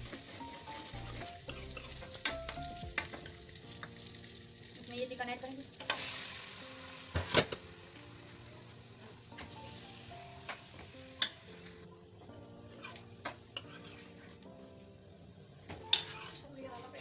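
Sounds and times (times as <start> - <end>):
chicken sizzling in hot fat: 0.0 - 17.0
soft background music: 0.0 - 17.0.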